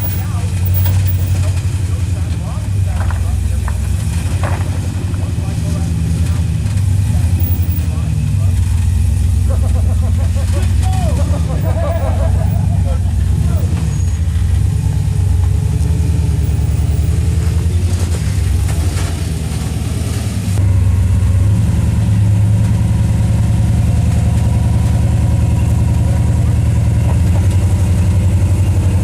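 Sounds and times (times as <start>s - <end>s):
engine running at low revs: 0.0s - 29.0s.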